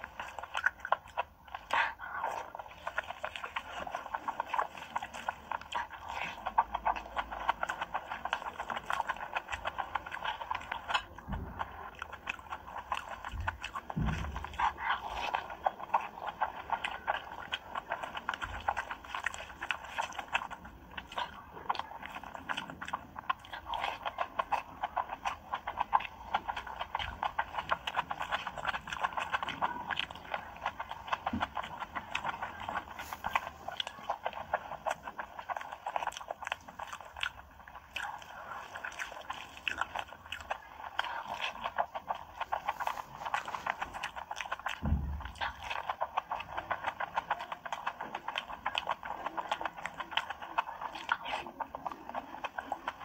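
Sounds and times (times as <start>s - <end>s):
person chewing food: 0.0s - 53.0s
wet mouth smacking: 0.0s - 53.0s.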